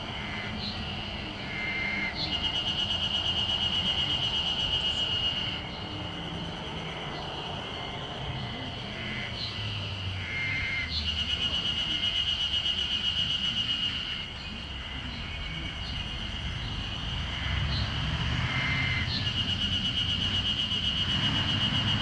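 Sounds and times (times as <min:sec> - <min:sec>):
cicadas singing in chorus: 0:00.0 - 0:22.0.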